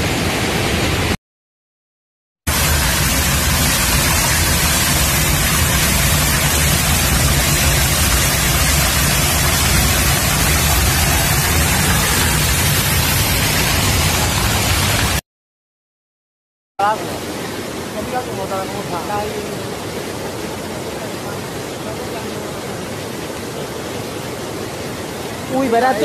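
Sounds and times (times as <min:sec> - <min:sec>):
floodwater rushing: 0:02.5 - 0:15.2, 0:16.8 - 0:26.0.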